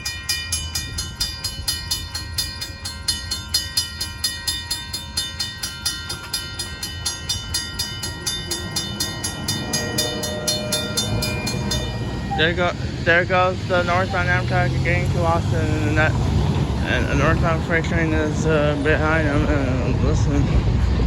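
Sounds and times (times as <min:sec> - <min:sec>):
crossing signal bell ringing: 0:00.0 - 0:19.8
train rumbling past: 0:00.0 - 0:21.0.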